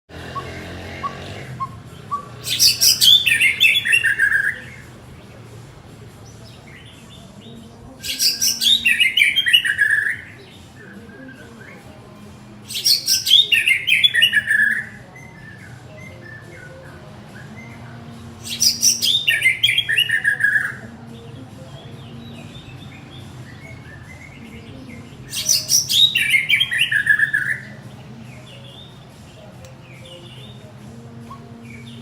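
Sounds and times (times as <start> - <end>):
bird singing: 0.1 - 5.4, 6.2 - 32.0.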